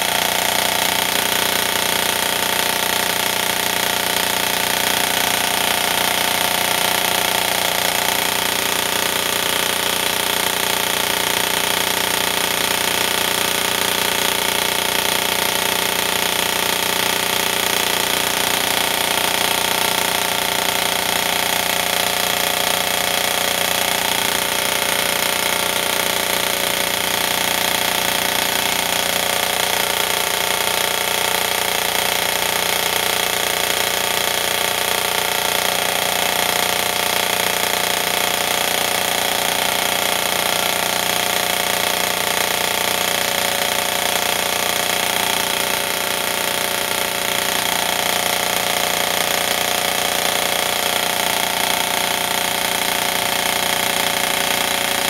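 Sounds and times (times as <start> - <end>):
airsoft gun firing full auto: 0.0 - 55.0.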